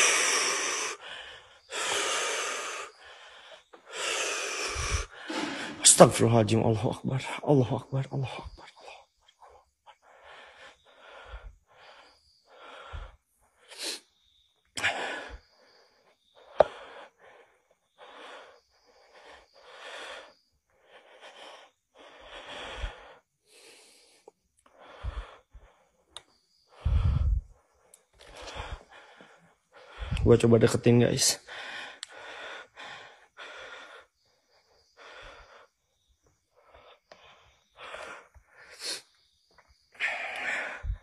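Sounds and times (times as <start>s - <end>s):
person breathing hard: 0.0s - 6.3s, 8.4s - 30.5s, 31.3s - 41.0s.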